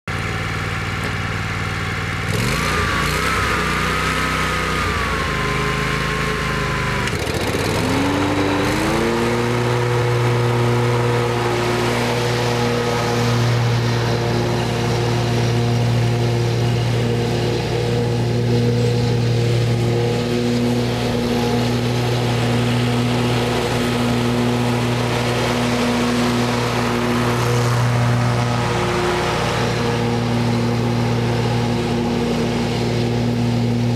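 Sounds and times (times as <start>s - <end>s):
lawn mower engine running: 0.1s - 33.9s.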